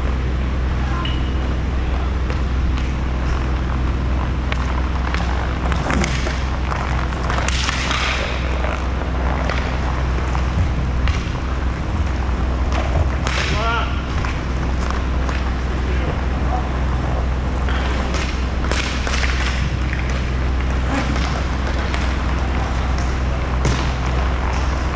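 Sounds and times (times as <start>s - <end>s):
low rumble: 0.0s - 24.9s
skate wheels rushing: 1.9s - 24.9s
hockey sticks and puck clacking: 2.2s - 24.9s.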